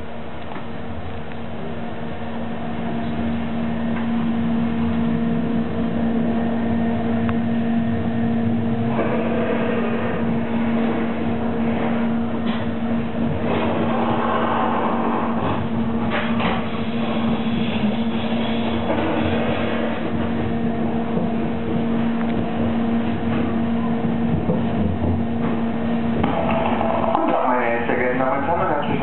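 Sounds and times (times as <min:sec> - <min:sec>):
rush of rail noise: 0:00.0 - 0:29.0
train rumbling inside carriage: 0:00.0 - 0:29.0.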